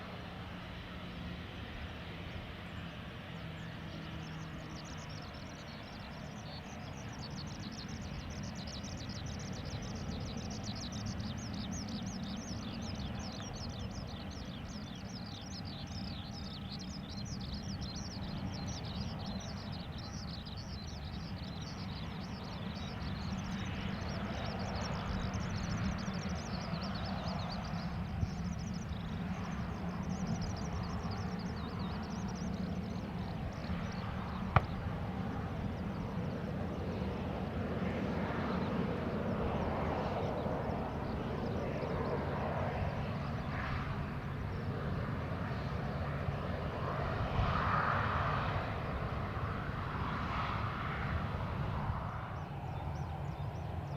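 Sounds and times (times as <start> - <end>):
jet engines at taxi power: 0.0 - 53.9
birds chirping: 0.2 - 46.8.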